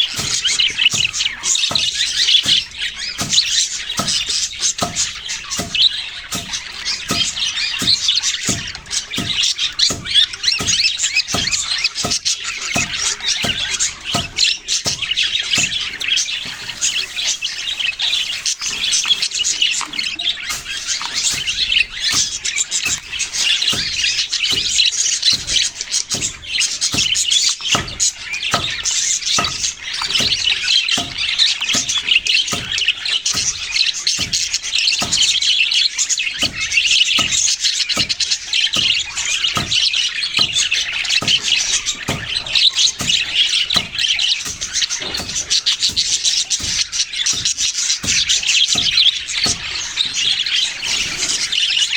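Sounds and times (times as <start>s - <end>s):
budgerigars chirping: 0.0s - 51.9s
short bird clicks: 0.0s - 51.9s.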